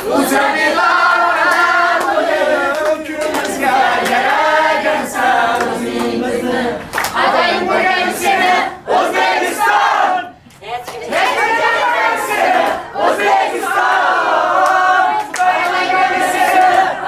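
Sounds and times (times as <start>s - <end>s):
group of people singing: 0.0s - 17.0s.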